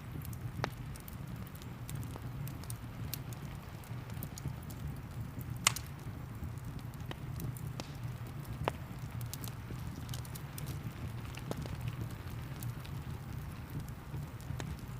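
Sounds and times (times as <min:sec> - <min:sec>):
wood fire crackling and popping: 0:00.0 - 0:14.9.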